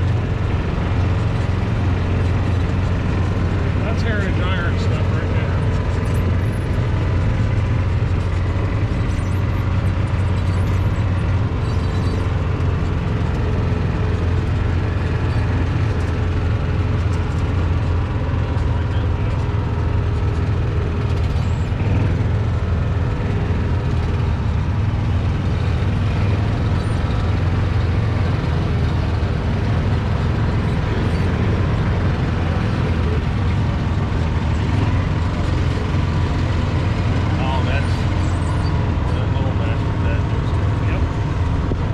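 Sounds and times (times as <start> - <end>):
low vehicle engine rumble: 0.0 - 41.9.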